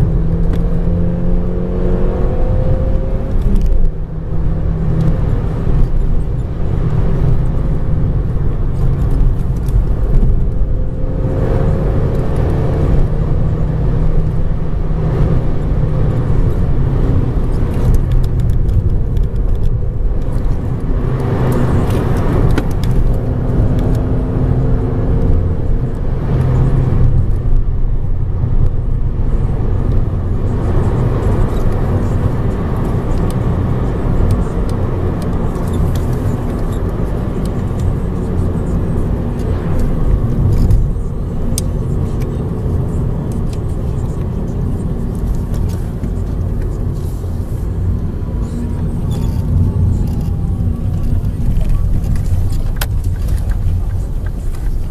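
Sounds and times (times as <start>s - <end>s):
car engine running: 0.0s - 54.9s
road and tyre noise: 0.0s - 54.9s.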